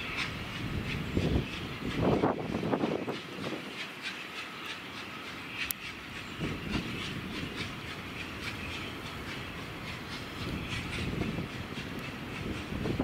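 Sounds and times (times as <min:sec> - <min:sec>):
regular rail clicking: 0:00.0 - 0:13.0
steam train rumble: 0:00.0 - 0:13.0.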